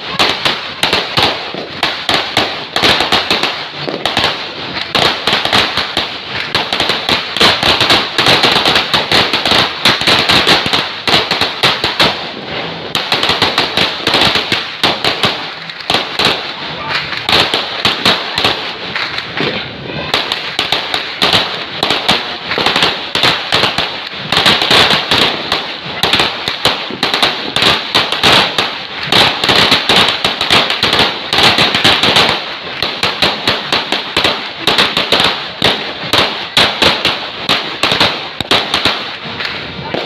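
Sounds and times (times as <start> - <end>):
firecrackers popping rapidly: 0.0 - 40.0.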